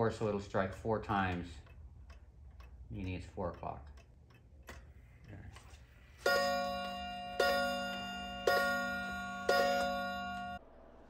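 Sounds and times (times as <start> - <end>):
wall clock striking: 0.0 - 10.6.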